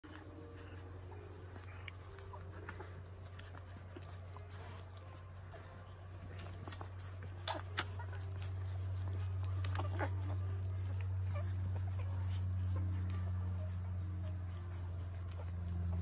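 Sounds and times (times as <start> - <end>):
puppies squeaking: 0.0 - 16.0.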